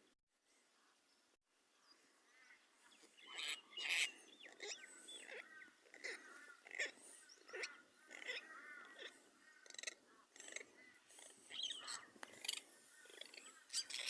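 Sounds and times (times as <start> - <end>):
birds chattering and whistling: 1.8 - 14.0.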